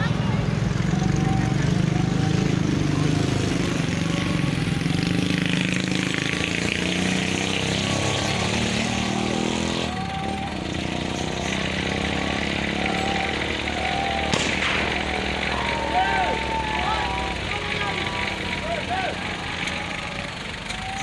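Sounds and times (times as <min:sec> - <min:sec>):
people's voices: 0:00.0 - 0:21.0
vehicle engine running: 0:00.0 - 0:21.0.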